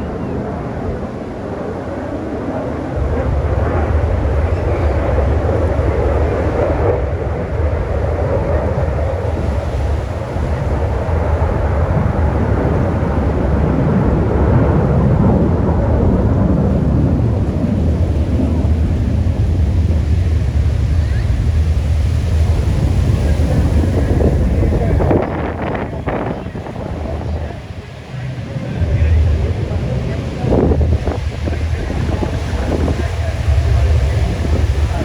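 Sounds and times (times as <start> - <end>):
aircraft engine rumble: 0.0 - 35.0.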